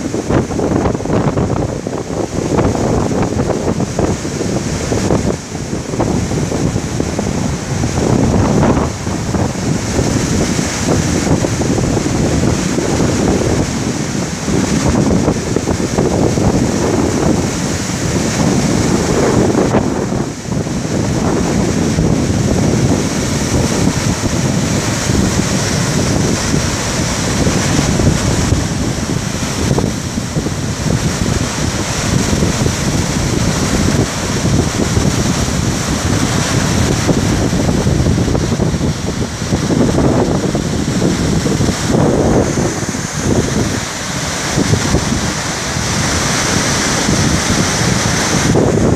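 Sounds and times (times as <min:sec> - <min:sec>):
storm waves breaking on beach: 0:00.0 - 0:48.9
wind buffeting microphone: 0:00.0 - 0:48.9.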